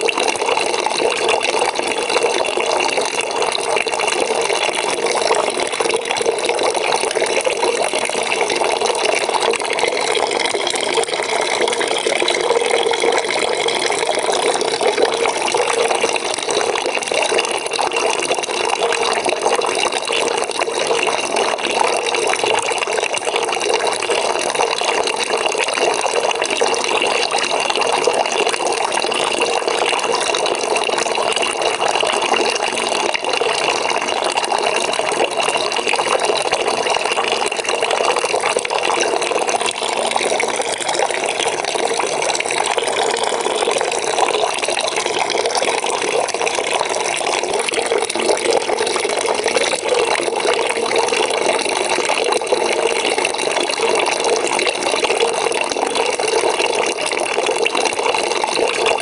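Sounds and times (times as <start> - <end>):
water pouring into a bucket: 0.0 - 59.0.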